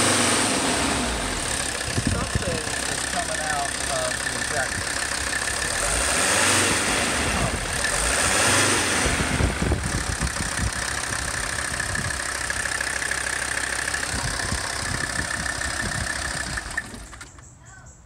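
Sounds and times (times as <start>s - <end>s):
diesel engine idling with knock: 0.0s - 17.4s.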